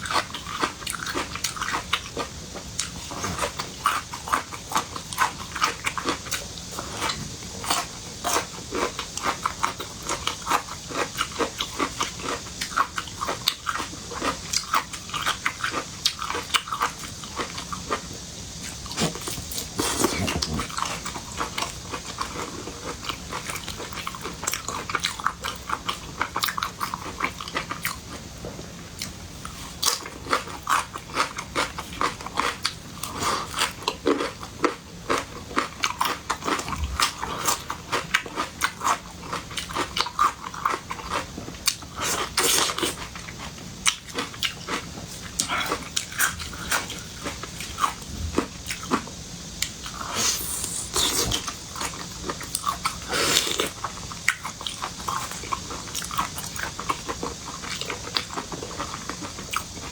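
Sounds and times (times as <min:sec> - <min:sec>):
person chewing and smacking: 0:00.0 - 0:28.2, 0:29.0 - 0:59.9.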